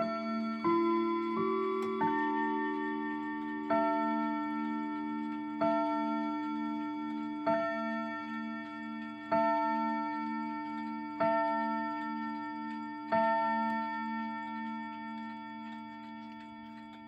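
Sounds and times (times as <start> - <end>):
chime clock striking: 0.0 - 16.3.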